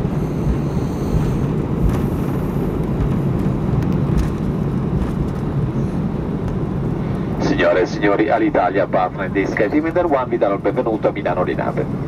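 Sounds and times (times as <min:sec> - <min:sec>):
jet engines low rumble: 0:00.0 - 0:12.0
wheels rolling on taxiway: 0:00.0 - 0:12.0.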